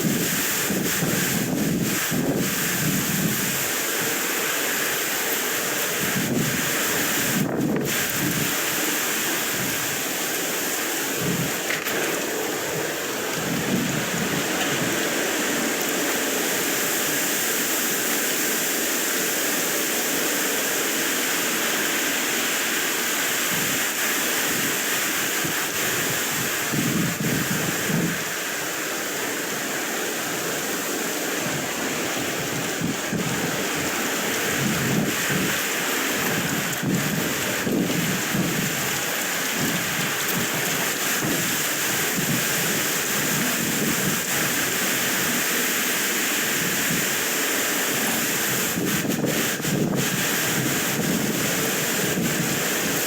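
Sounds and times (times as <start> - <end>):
wind blowing across microphone: 0.0 - 53.0.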